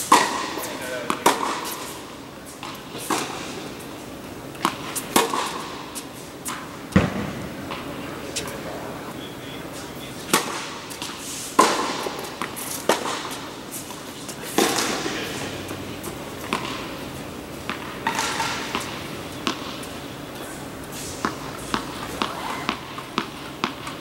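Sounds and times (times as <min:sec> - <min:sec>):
tennis balls bouncing on court: 0:00.0 - 0:02.0, 0:02.6 - 0:08.6, 0:10.2 - 0:20.5, 0:21.2 - 0:24.0
rackets striking tennis balls: 0:00.0 - 0:08.6, 0:10.2 - 0:24.0.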